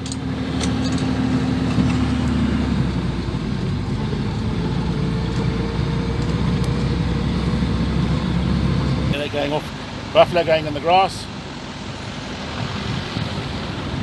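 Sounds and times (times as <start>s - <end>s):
engine running at low revs: 0.0s - 14.0s.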